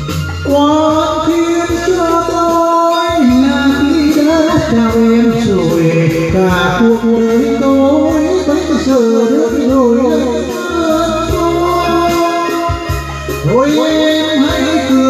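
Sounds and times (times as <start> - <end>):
backing track music: 0.0 - 15.0
man singing into microphone: 0.3 - 15.0.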